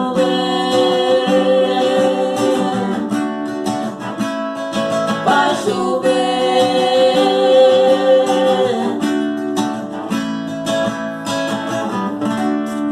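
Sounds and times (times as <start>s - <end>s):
strummed acoustic guitar: 0.0s - 12.9s.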